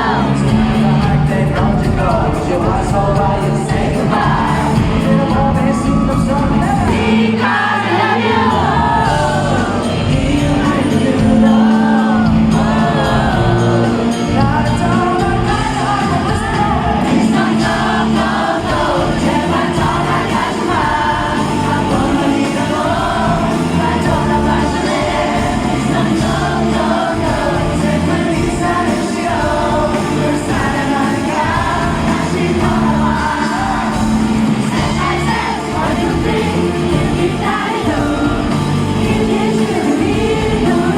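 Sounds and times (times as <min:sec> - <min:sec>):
bass guitar: 0:00.0 - 0:40.9
drums: 0:00.0 - 0:40.9
electric guitar: 0:00.0 - 0:40.9
live rock band playing: 0:00.0 - 0:40.9
man singing lead vocals: 0:00.0 - 0:40.9.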